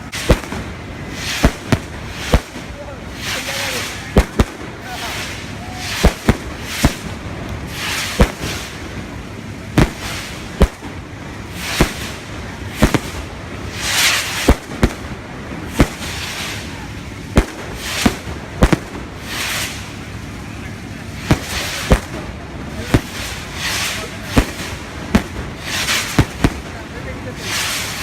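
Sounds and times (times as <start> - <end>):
fireworks banging: 0.0 - 28.0
fireworks hissing whooshes: 0.0 - 28.0.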